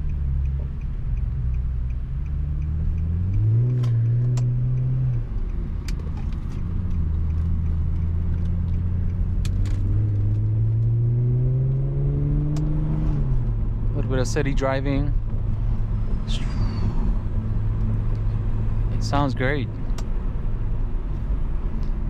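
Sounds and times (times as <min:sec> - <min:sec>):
car engine revving through exhaust: 0:00.0 - 0:19.9.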